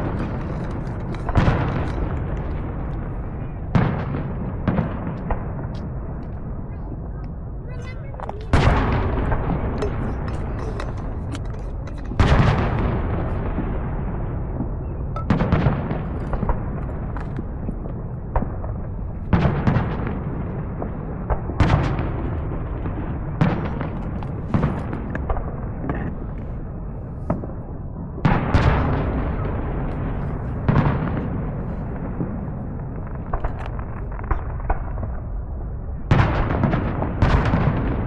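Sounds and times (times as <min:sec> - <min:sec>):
fireworks banging: 0:00.0 - 0:38.0.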